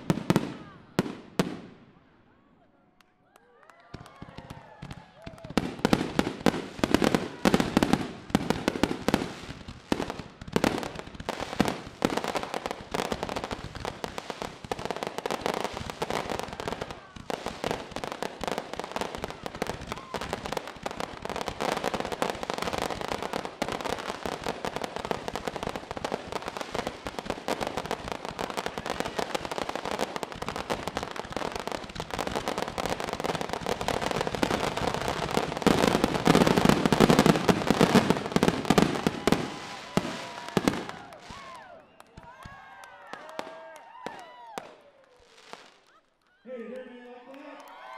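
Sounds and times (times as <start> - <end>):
fireworks bangs: 0.0 - 2.0, 3.8 - 47.5
fireworks crackling: 0.0 - 2.0, 3.8 - 47.6.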